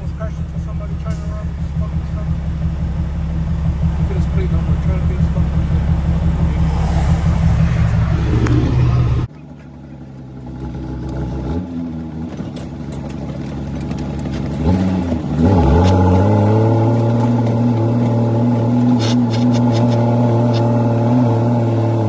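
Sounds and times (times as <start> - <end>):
diesel truck engine: 0.0 - 22.0.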